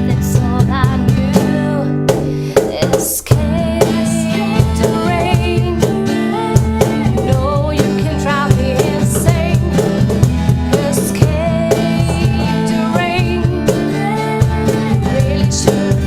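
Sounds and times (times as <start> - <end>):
person singing: 0.0 - 16.0
steady drum beat: 0.0 - 16.0
strummed acoustic guitar: 0.0 - 16.0.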